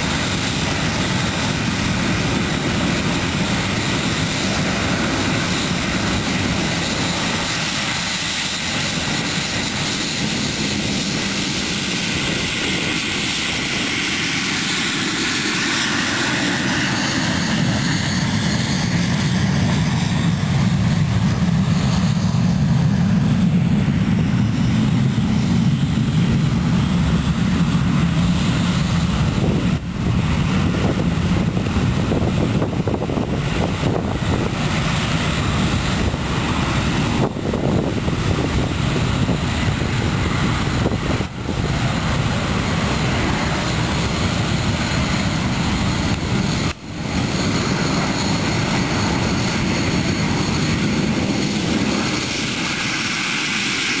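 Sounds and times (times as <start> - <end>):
steady low rumble: 0.0 - 53.6
aircraft engines passing: 0.0 - 54.0.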